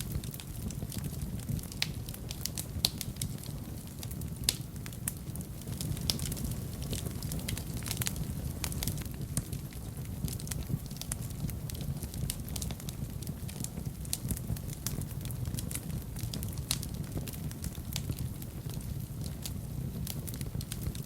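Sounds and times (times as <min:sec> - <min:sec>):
fire crackles and pops: 0:00.0 - 0:21.0
low rumble of flames: 0:00.0 - 0:21.0.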